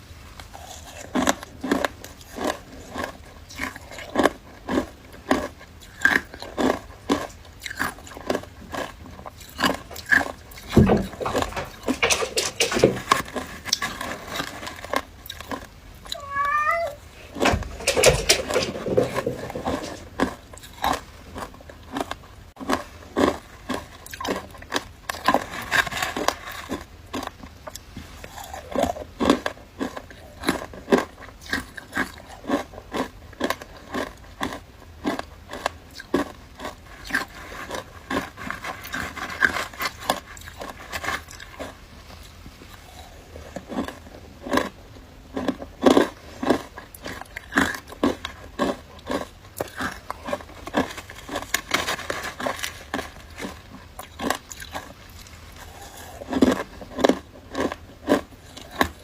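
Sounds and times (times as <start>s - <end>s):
biting and crunching ice: 0.6s - 12.1s, 20.0s - 41.8s, 42.9s - 59.0s.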